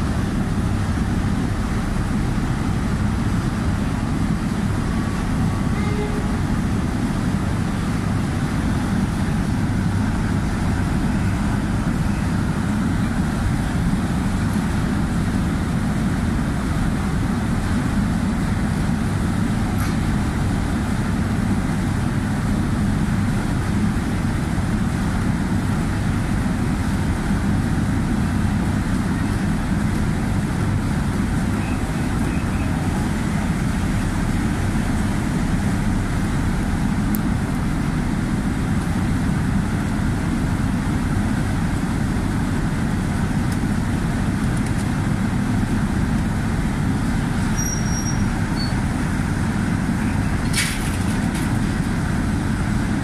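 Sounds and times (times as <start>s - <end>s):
ship engines rumbling: 0.0s - 53.0s.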